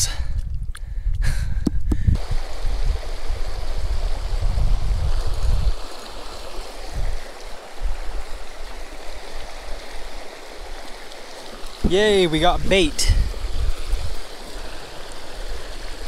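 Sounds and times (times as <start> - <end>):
river water rushing: 2.2 - 16.0.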